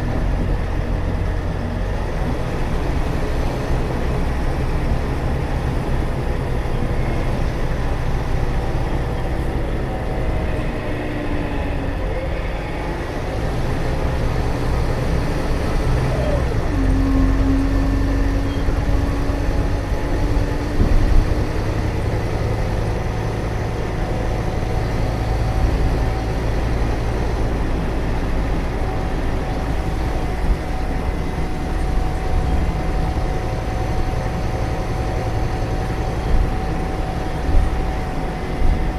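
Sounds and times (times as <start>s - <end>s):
bus diesel engine running: 0.0s - 38.9s
road noise: 0.0s - 38.9s.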